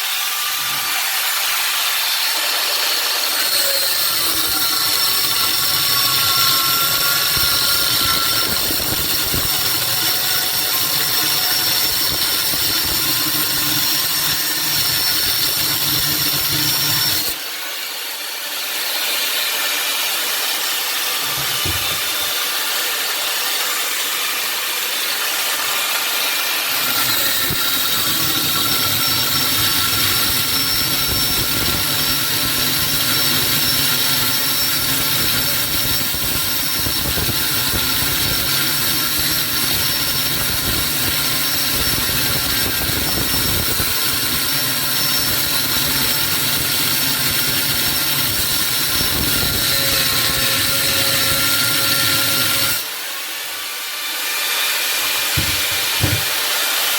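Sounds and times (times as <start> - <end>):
power tool cutting metal: 0.0 - 56.9.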